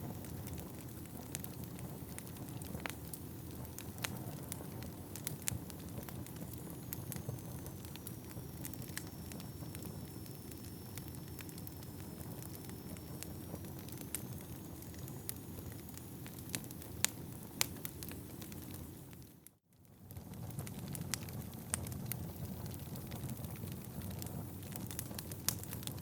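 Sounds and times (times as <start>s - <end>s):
fire flames rumbling: 0.0s - 19.3s, 19.9s - 26.0s
fire crackling and popping: 0.0s - 26.0s.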